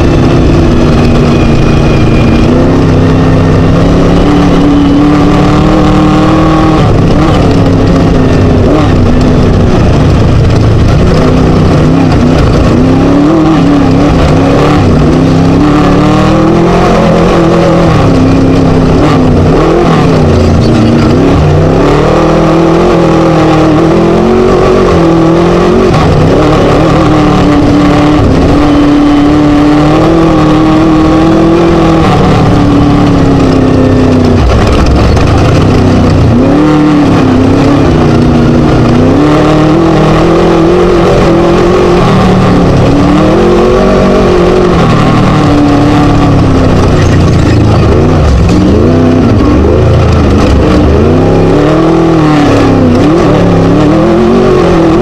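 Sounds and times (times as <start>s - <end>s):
race buggy engine revving: 0.0s - 55.0s.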